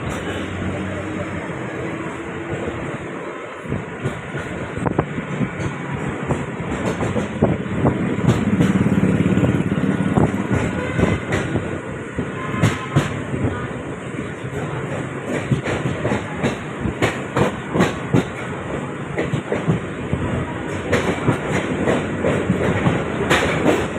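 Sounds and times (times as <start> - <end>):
electric train rumble: 0.0 - 23.9.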